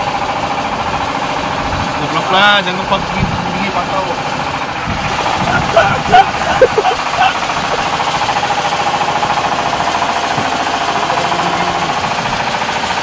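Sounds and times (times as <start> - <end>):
boat engine rattling: 0.0 - 13.0.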